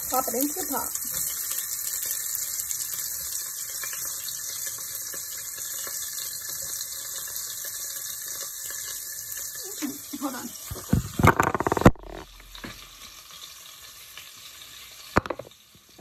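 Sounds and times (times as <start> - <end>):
onion and tomato sizzling in oil: 0.0 - 16.0.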